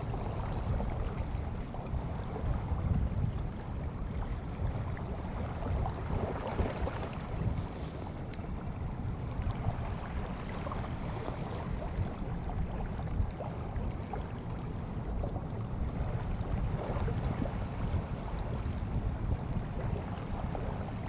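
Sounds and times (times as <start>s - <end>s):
waves washing on shore: 0.0s - 21.0s
wind buffeting microphone: 0.0s - 21.0s.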